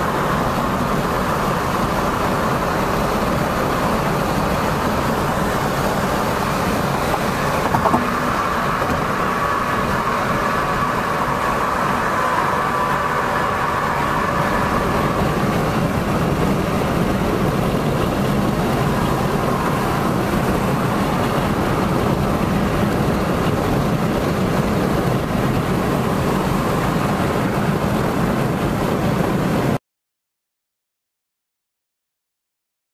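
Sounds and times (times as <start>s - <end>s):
tyre roar and wind in car: 0.0s - 29.8s.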